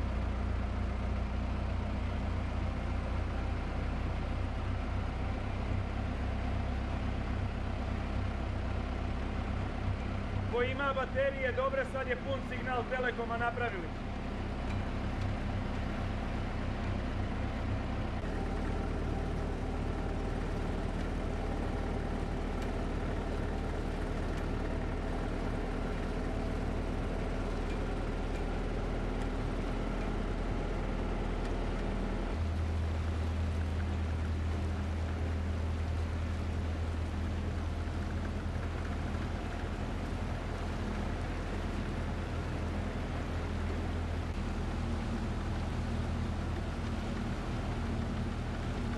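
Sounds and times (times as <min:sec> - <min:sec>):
motor engine humming: 0:00.0 - 0:48.9.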